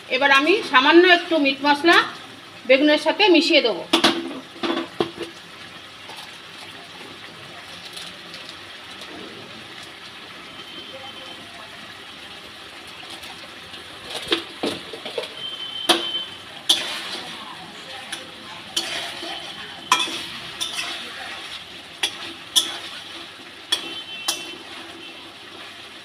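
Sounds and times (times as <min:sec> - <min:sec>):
curry bubbling and sizzling: 0:00.0 - 0:26.0.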